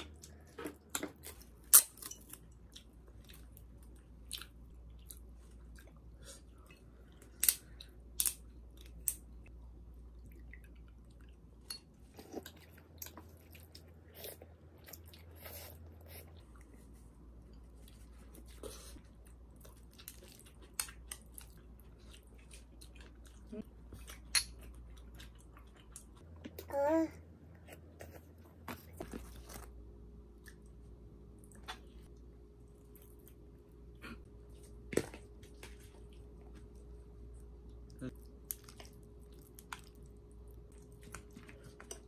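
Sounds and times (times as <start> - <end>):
chewing with crunchy bites: 0.0 - 9.2, 10.2 - 26.5, 30.3 - 42.0.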